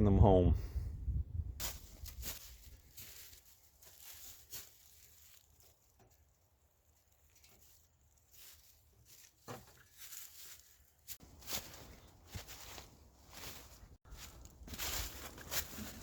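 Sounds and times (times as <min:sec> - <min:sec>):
faint scuffs and rustles: 0:01.6 - 0:16.0.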